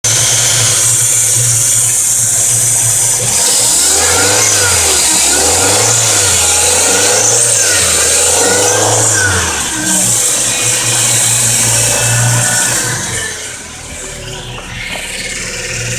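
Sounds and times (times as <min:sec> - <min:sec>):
car engine idling and revving: 0:00.0 - 0:15.9.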